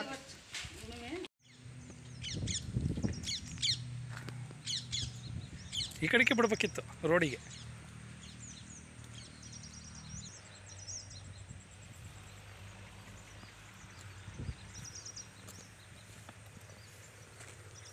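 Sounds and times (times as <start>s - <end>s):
birds chirping and trilling: 1.4s - 17.9s.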